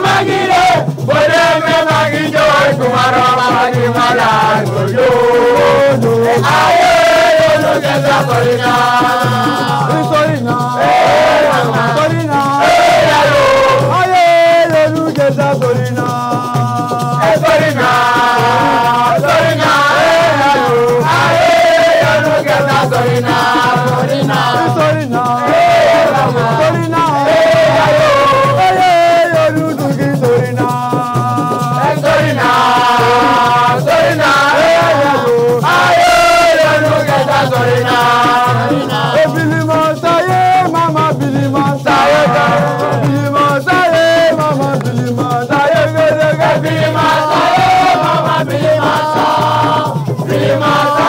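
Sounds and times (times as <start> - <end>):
person singing: 0.0 - 51.0
shaker rattle rhythm: 0.0 - 51.0.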